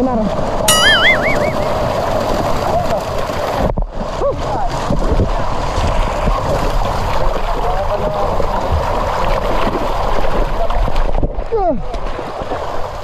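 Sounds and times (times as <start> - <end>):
fish thrashing and splashing: 0.1 - 11.2.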